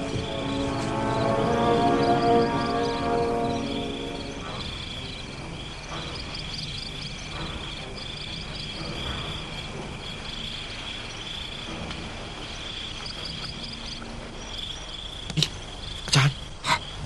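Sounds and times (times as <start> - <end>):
crickets chirping: 0.0 - 17.0
rapid insect trills: 0.0 - 17.0.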